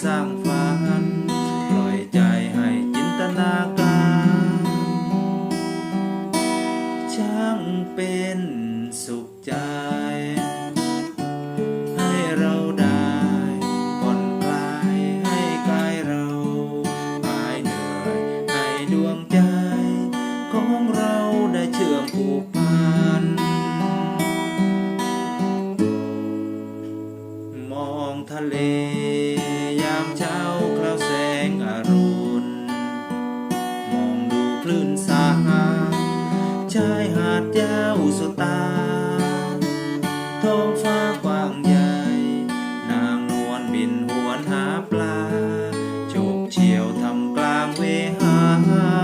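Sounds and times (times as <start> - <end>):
acoustic guitar music: 0.0 - 49.0.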